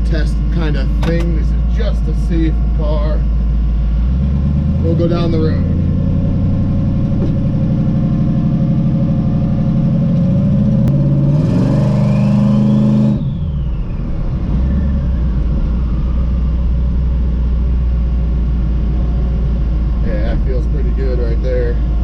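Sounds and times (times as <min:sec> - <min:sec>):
faint whine: 0:00.0 - 0:11.2, 0:13.2 - 0:22.0
car engine accelerating: 0:00.0 - 0:22.0.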